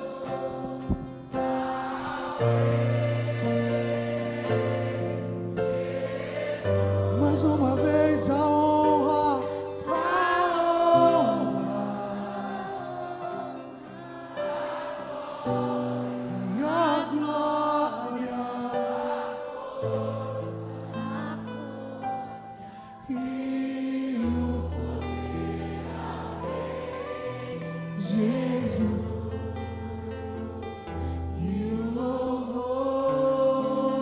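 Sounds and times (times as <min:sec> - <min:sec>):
voices singing long notes: 0:00.0 - 0:34.0.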